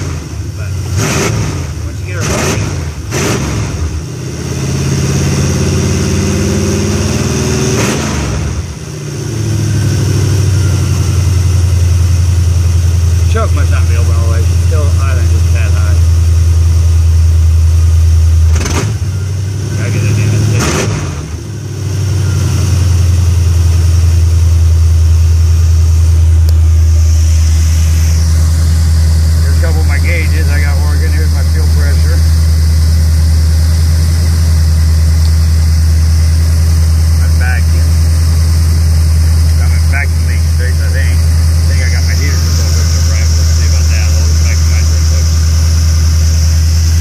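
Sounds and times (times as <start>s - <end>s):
engine revving then idling: 0.0s - 47.0s.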